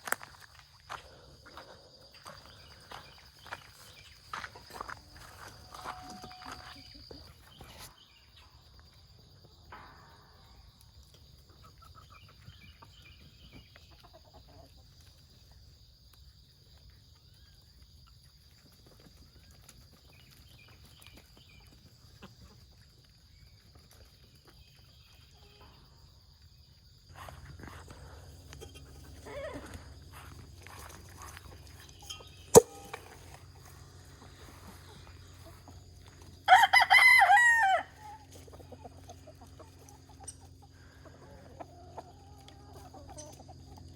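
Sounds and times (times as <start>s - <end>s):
farm animal sounds: 0.2s - 43.9s.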